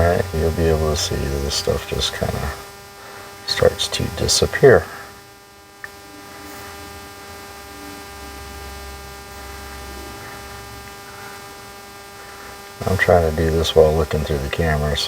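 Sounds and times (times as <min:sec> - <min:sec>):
electrical mains hum: 0:00.0 - 0:15.0
faint hiss: 0:00.0 - 0:15.0.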